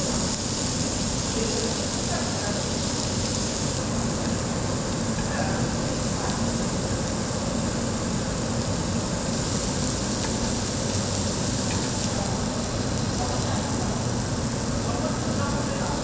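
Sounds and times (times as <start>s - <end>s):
meat sizzling on hot metal: 0.0s - 16.0s.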